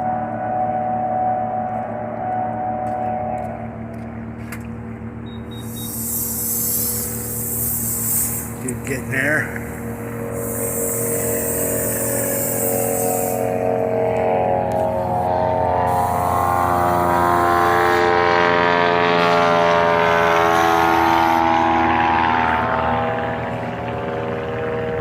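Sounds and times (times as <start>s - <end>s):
propeller plane flying past: 0.0s - 25.0s.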